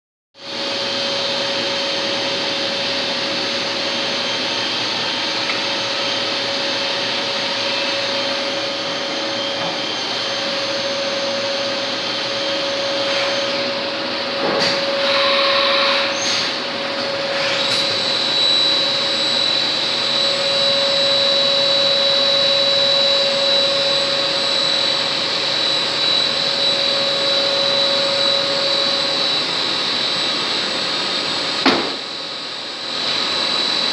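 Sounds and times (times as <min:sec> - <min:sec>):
higher-pitched machine whine: 0:00.4 - 0:33.9
lathe mechanical hum and whine: 0:00.4 - 0:33.9.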